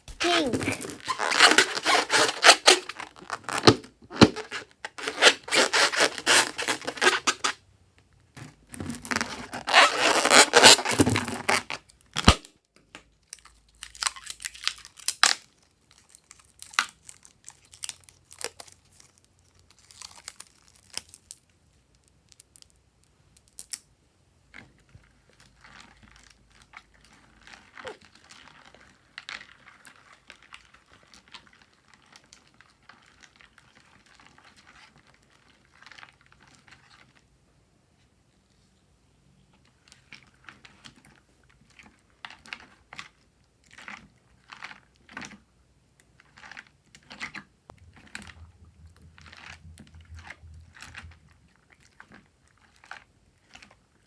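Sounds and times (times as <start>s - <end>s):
crinkling and crackling handling noise: 0.0s - 23.8s, 24.5s - 38.6s, 39.5s - 54.0s.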